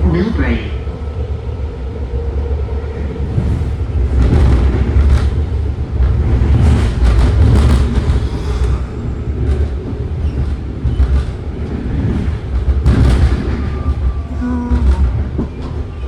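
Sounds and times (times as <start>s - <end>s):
train rumble with wheel clatter: 0.0s - 16.0s.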